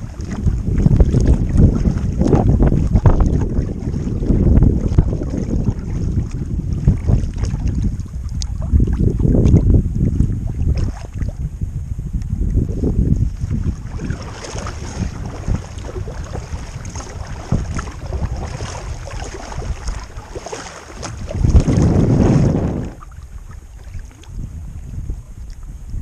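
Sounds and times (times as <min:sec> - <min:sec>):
water lapping against hull: 0:00.0 - 0:26.0
wind buffeting microphone: 0:00.0 - 0:26.0.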